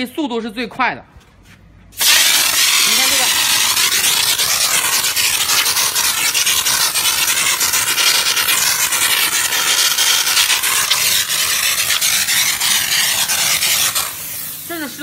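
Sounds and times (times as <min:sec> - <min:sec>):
steam gun hissing: 0:02.0 - 0:15.0.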